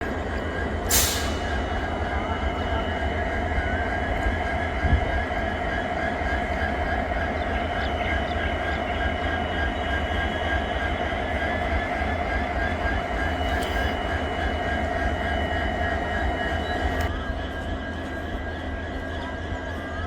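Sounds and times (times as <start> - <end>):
diesel locomotives idling: 0.0 - 20.0.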